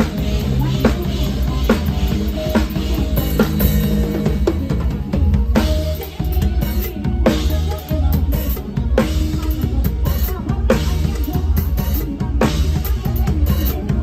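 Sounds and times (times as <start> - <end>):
band playing: 0.0 - 14.0
bass: 0.0 - 14.0.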